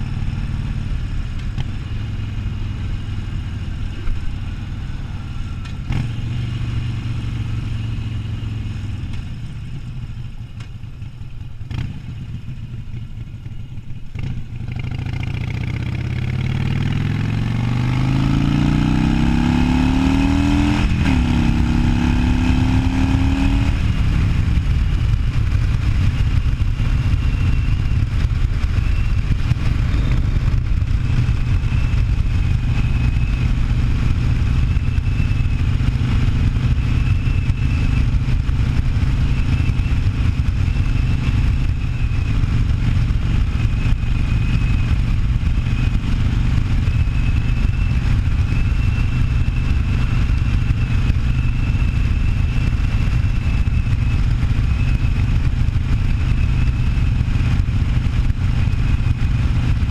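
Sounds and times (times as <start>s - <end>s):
motorcycle engine revving: 0.0s - 10.2s, 11.5s - 59.9s.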